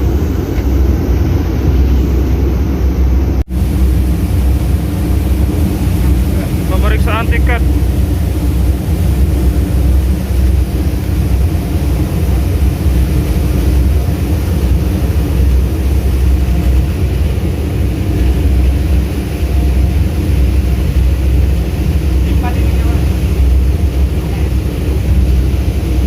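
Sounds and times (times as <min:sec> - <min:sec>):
boat engines droning: 0:00.0 - 0:26.0.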